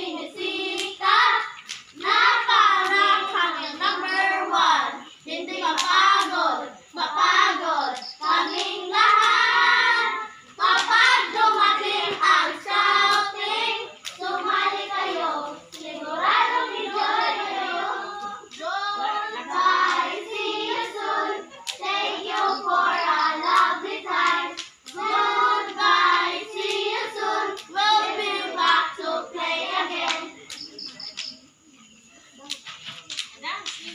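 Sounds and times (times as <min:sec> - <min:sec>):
young voices chanting in unison: 0:00.0 - 0:31.0.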